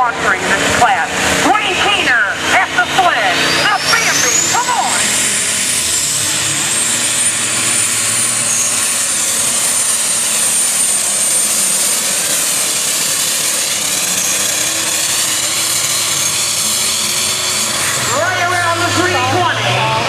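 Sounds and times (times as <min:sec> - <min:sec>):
diesel engine at full throttle: 0:00.0 - 0:20.0
high whine: 0:00.0 - 0:20.0.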